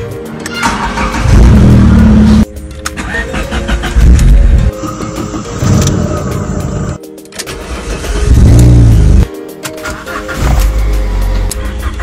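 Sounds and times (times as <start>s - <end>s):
car engines cold-starting and revving: 0.4s - 12.0s.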